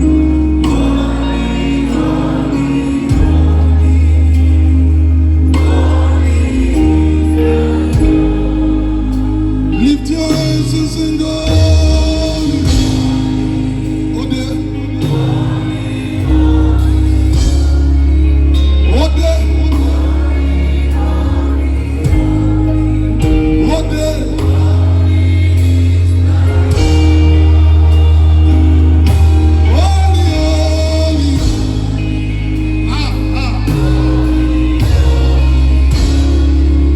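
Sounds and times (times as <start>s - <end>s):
indistinct singing: 0.0s - 36.9s
slow gospel worship music: 0.0s - 36.9s.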